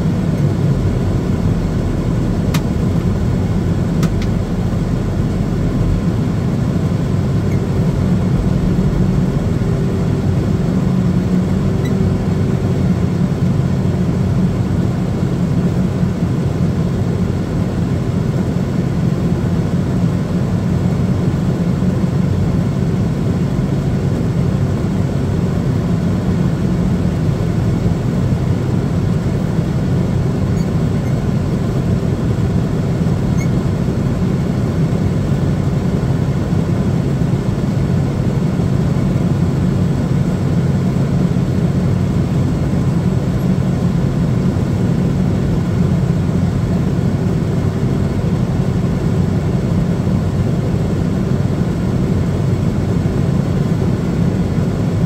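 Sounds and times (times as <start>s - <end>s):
aircraft tug engine running: 0.0s - 55.0s.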